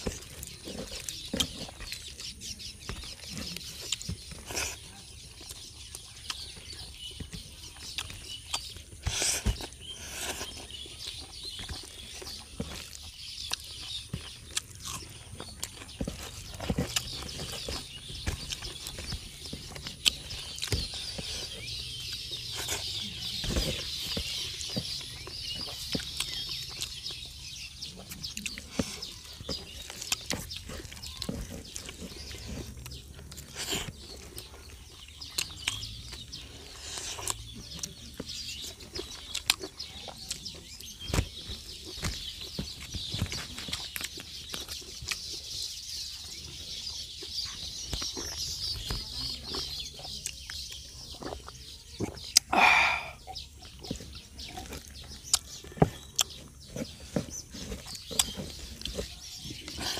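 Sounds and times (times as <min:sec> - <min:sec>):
open-mouthed chewing: 0:00.0 - 0:59.9.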